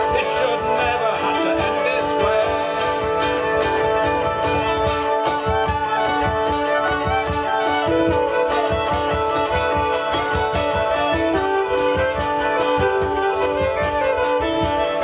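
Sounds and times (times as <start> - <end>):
cajon beat: 0.0 - 15.0
fiddle melody: 0.0 - 15.0
hurdy-gurdy drone: 0.0 - 15.0
strummed long-necked string instrument: 0.0 - 15.0.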